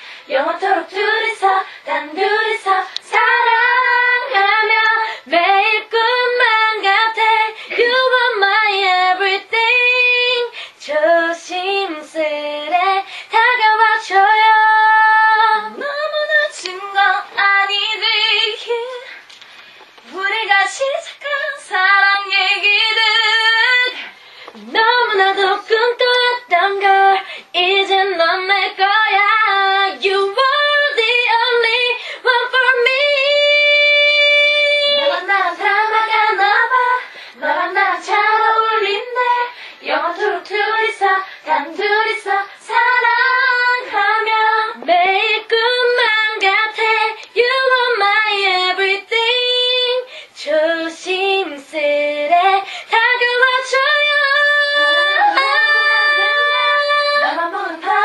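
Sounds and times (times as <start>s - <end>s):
women singing pop ballad: 0.0s - 58.0s.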